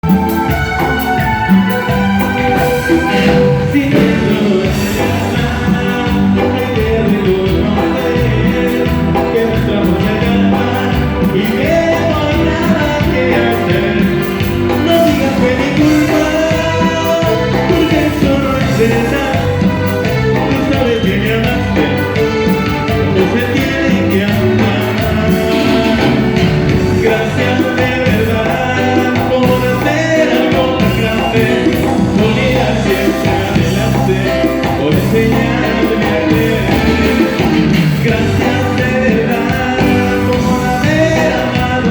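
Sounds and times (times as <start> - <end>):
live band playing cumbia: 0.0 - 41.9.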